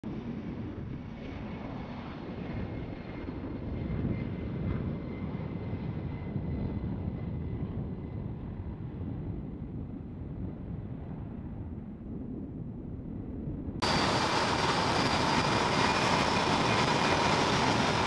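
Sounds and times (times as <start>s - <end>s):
jet engines rumbling at takeoff: 0.1s - 18.0s.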